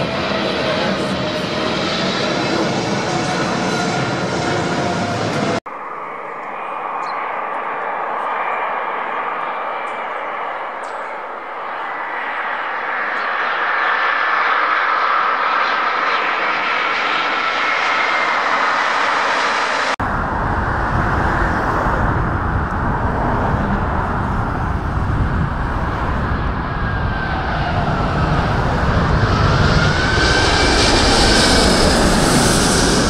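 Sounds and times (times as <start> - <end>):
airliner passing overhead rumbling: 0.0 - 33.0
jet engine whine: 0.0 - 33.0.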